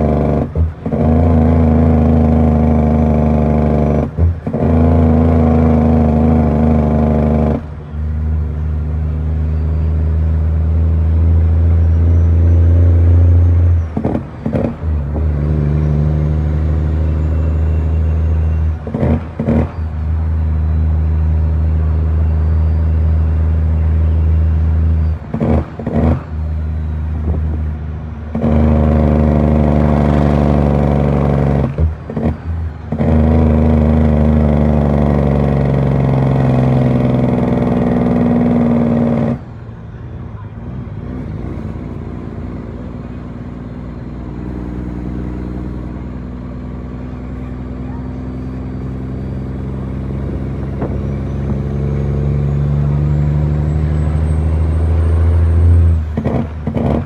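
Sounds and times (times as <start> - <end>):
truck diesel engine: 0.0 - 57.0.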